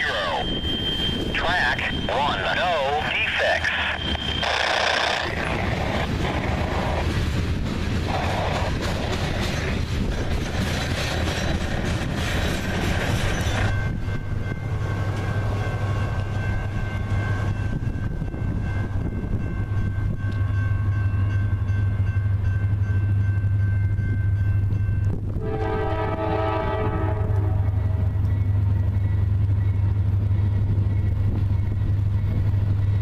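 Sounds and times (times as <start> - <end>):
train passing with rushing wheels: 0.0 - 33.0.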